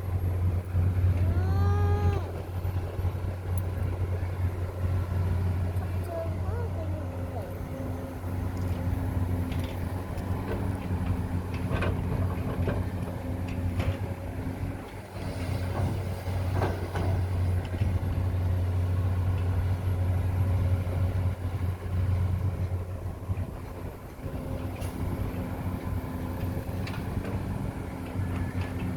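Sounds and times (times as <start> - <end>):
low engine drone: 0.0 - 28.9.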